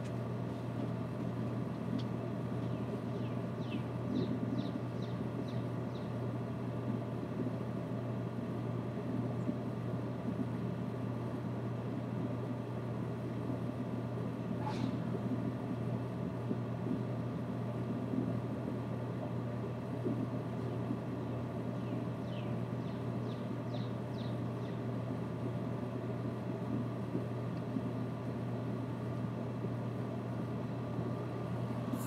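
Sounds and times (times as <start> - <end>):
constant low hum: 0.0 - 32.0.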